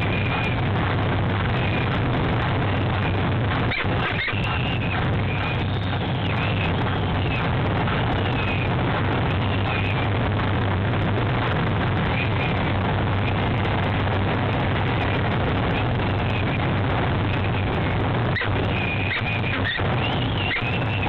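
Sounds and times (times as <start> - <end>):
low hum: 0.0 - 21.0
rushing background noise: 0.0 - 21.0.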